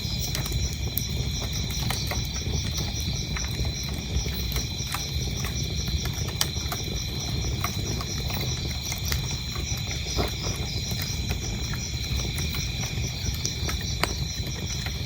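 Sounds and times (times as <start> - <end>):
crickets chirping: 0.0 - 15.0
wood fire crackling and popping: 0.0 - 15.0.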